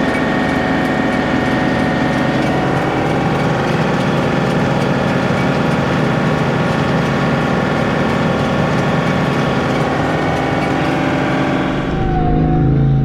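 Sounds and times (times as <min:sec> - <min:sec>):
tractor engine running: 0:00.0 - 0:12.3
machine mechanical noise: 0:00.0 - 0:13.0.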